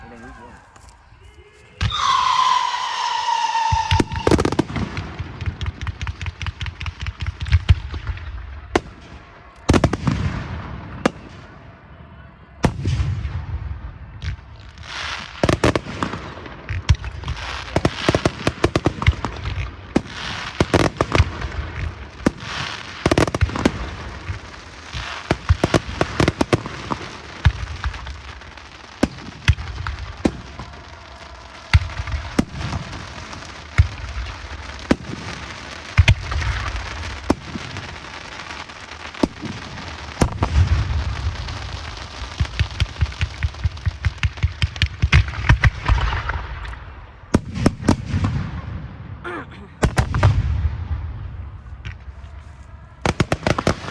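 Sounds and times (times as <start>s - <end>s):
deep fireworks booms: 0.0s - 53.9s
fireworks bangs and crackles: 0.0s - 53.9s.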